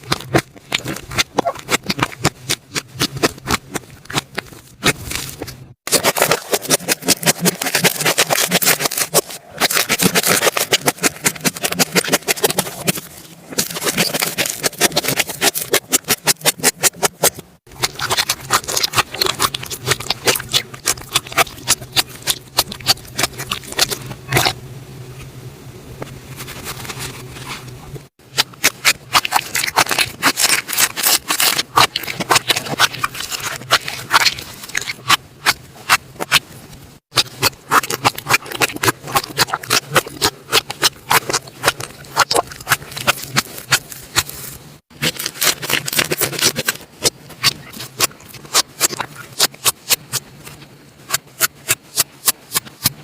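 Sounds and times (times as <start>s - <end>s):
slime crackling and popping: 0.0s - 24.6s, 28.3s - 53.0s.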